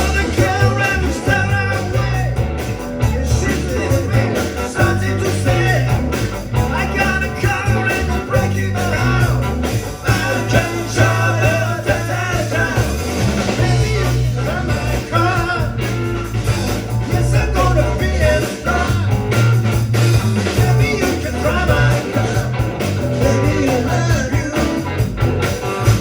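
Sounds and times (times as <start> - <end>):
person singing: 0.0 - 2.4, 3.0 - 16.2, 17.0 - 19.2, 20.6 - 25.0
bass notes: 0.0 - 26.0
electric guitar: 0.0 - 26.0.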